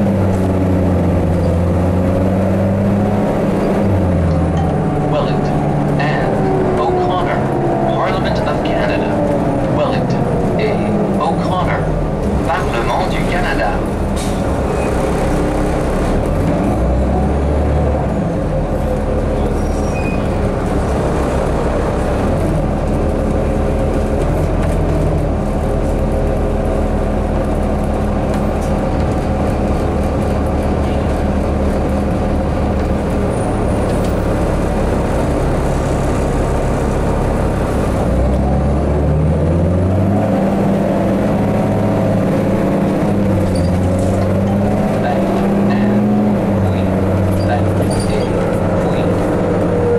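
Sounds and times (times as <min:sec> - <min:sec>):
bus engine running: 0:00.0 - 0:49.9
road rumble: 0:00.0 - 0:49.9.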